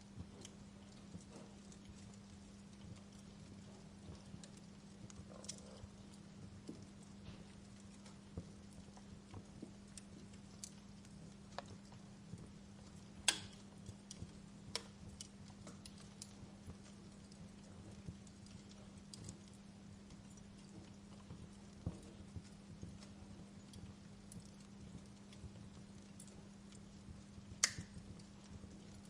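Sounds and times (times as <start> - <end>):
faint low hum: 0.0 - 29.0
wood fire crackling: 0.0 - 29.0.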